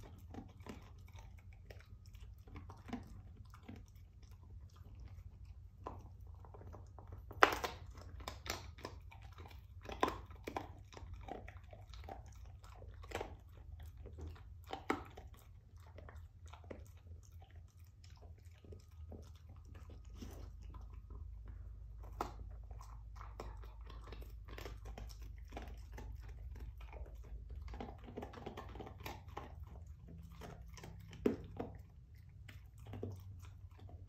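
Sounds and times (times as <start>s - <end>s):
dog crunching bone: 0.0s - 34.0s.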